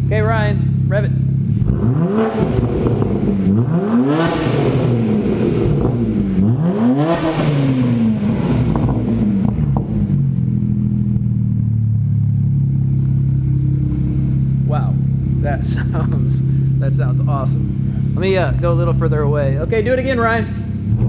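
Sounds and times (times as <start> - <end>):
car engine revving and idling: 0.0 - 21.0.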